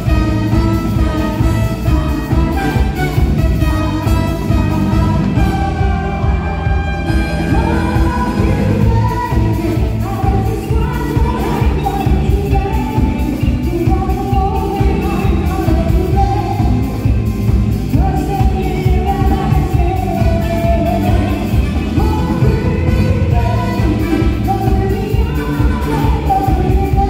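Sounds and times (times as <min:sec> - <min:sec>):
live band playing: 0:00.0 - 0:27.0
person singing: 0:00.0 - 0:27.0.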